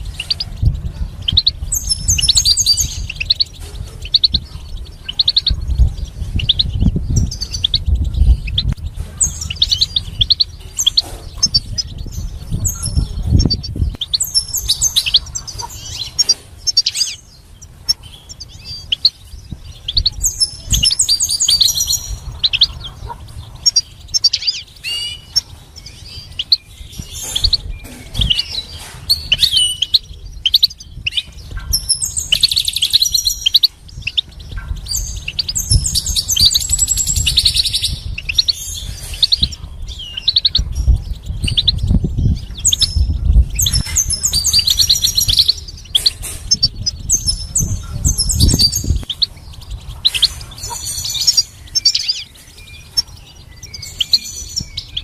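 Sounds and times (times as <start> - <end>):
low rumble: 0.0 - 53.6
goldfinch singing: 0.0 - 55.0.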